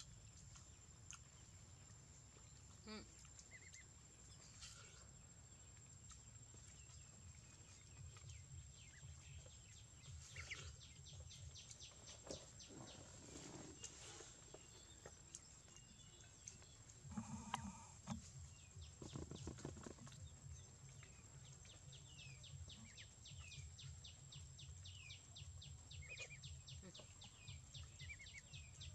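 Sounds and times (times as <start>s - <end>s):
low hum: 0.0s - 26.3s.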